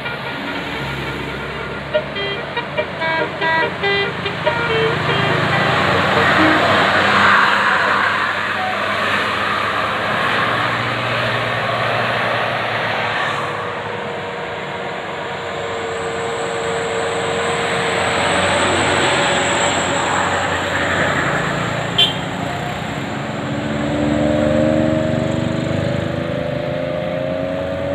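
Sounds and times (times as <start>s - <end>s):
bus engine and tyre noise: 0.0s - 27.9s.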